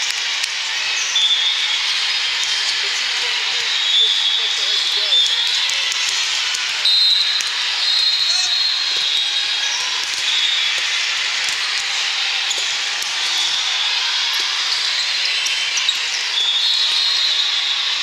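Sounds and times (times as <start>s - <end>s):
many distant voices: 0.0s - 18.0s.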